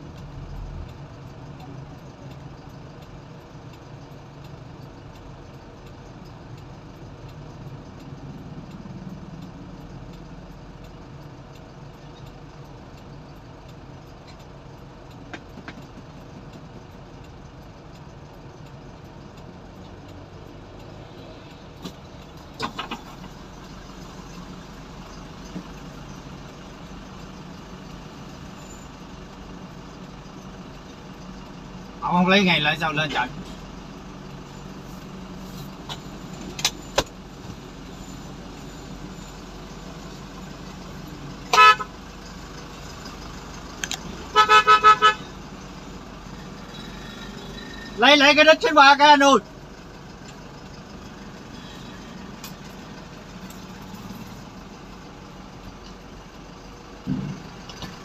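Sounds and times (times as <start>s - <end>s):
low engine hum: 0.0s - 48.0s, 49.4s - 58.0s.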